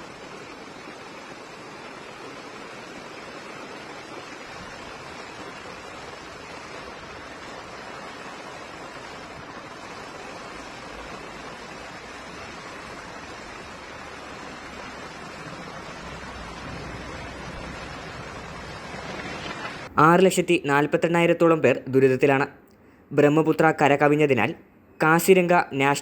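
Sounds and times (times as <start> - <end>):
water rushing: 0.0 - 21.7.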